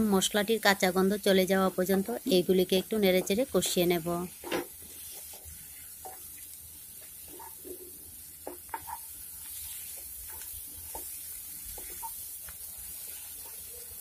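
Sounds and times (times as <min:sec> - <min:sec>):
spices sizzling in oil: 0:00.0 - 0:14.0
spatula scraping pan: 0:02.7 - 0:14.0.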